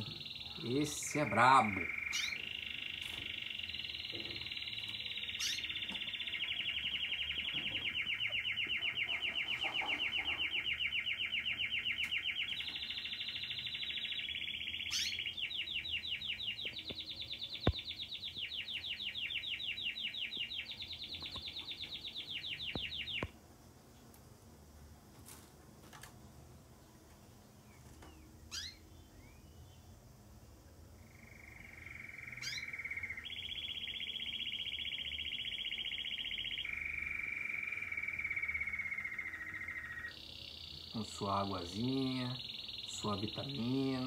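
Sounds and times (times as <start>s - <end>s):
canary singing trills: 0.0s - 23.4s, 27.4s - 30.0s, 31.0s - 44.0s.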